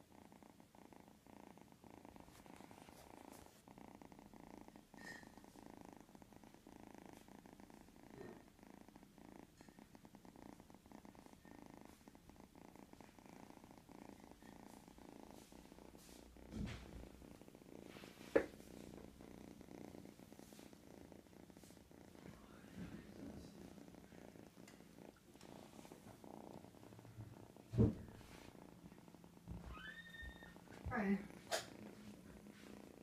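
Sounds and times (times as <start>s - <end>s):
kitten purring: 0.0s - 33.0s.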